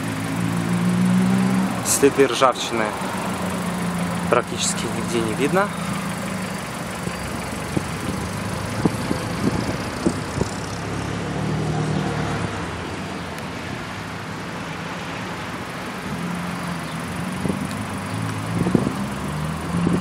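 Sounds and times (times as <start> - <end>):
low vehicle engine hum: 0.0 - 20.0.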